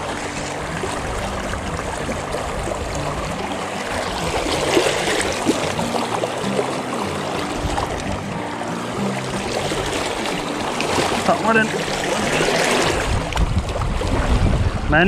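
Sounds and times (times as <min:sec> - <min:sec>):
river rushing and splashing: 0:00.0 - 0:15.0.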